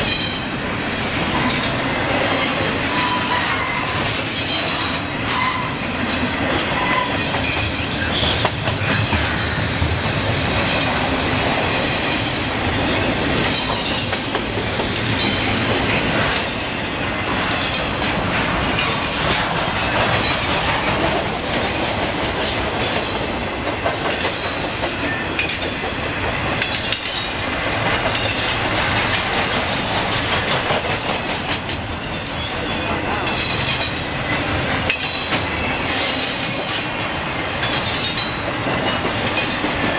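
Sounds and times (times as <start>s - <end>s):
steel wheels on rail: 0.0s - 39.9s
wheels clacking over rail joints: 0.0s - 39.9s.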